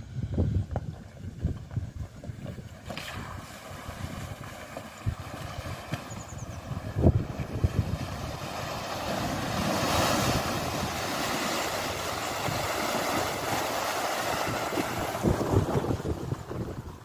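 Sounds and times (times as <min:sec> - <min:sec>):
wind buffeting microphone: 0:00.0 - 0:17.0
tyres splashing through water: 0:02.4 - 0:17.0.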